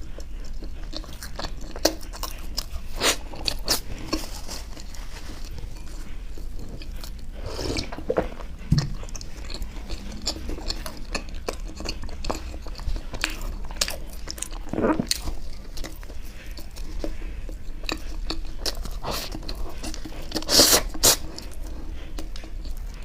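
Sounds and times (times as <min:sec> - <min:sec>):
wet chewing: 0:00.0 - 0:23.0.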